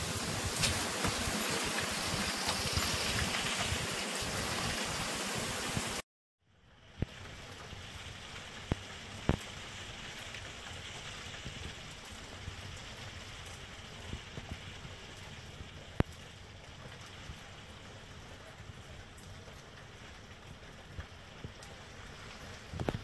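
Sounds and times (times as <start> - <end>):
rain hissing: 0.0 - 6.0, 6.8 - 23.0.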